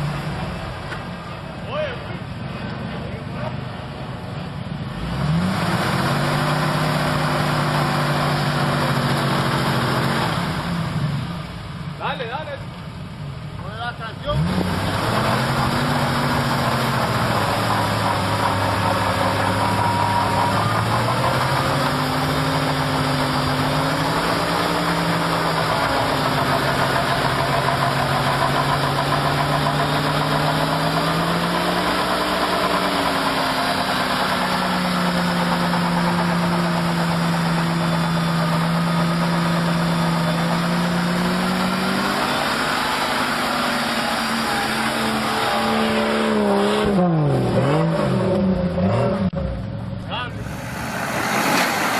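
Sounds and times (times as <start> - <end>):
vehicle engine revving: 2.5 - 11.6, 14.0 - 51.9.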